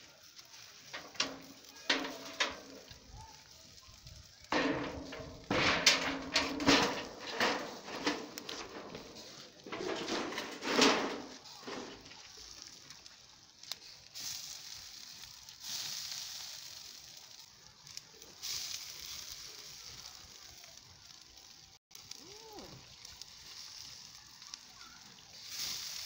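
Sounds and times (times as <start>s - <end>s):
water sizzling on hot fish: 0.0s - 26.0s.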